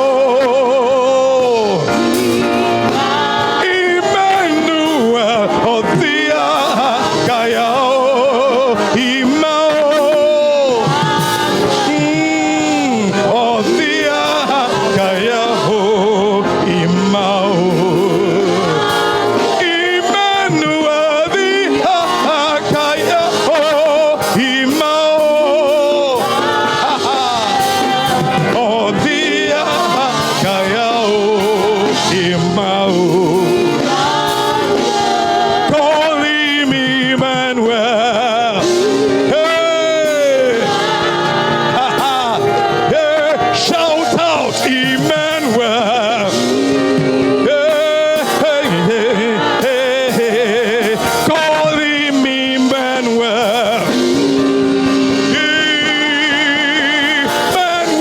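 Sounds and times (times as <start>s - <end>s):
gospel singing with vibrato: 0.0s - 58.0s
instrumental backing: 0.0s - 58.0s.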